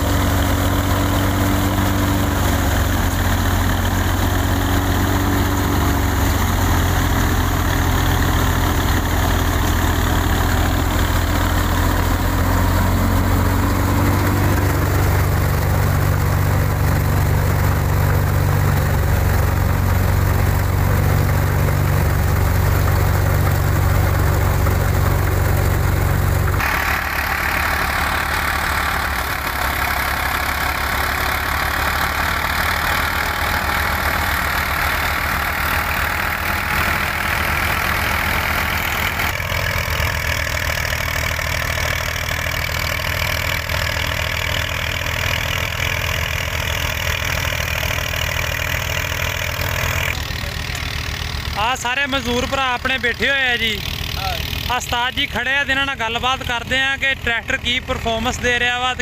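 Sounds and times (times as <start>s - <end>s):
thresher rushing rattle: 0.0s - 55.6s
tractor diesel engine running: 0.0s - 59.0s.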